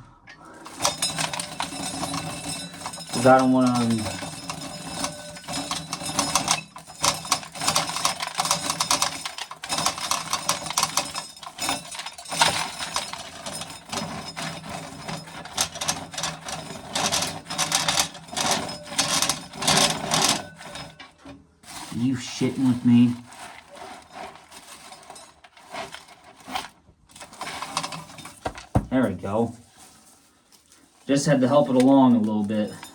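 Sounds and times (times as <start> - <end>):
corn sheller rattling: 0.5 - 30.1, 31.0 - 32.9.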